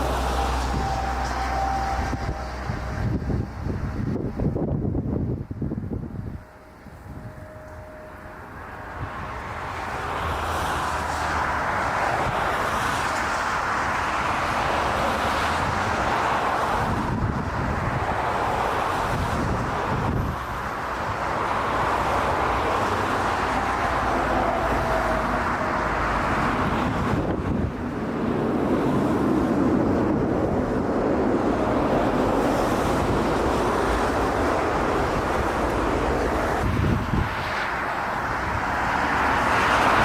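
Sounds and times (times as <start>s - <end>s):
gusty wind on microphone: 0.0s - 40.0s
jet airliner landing rumble: 0.0s - 40.0s.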